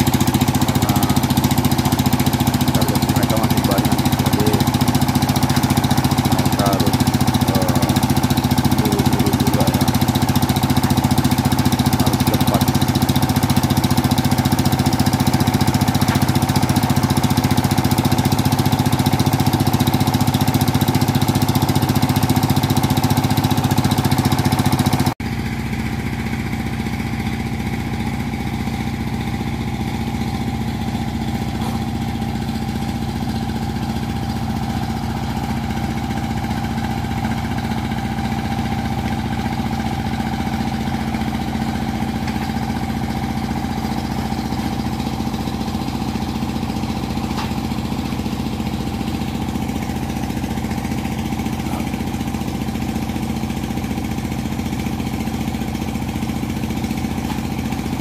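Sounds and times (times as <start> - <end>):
machine engine humming: 0.0 - 25.1, 29.0 - 58.0.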